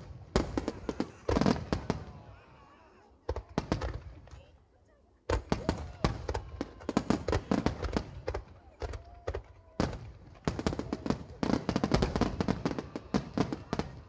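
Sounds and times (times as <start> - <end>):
fireworks bangs and crackles: 0.0 - 2.6, 3.2 - 4.5, 5.3 - 14.0.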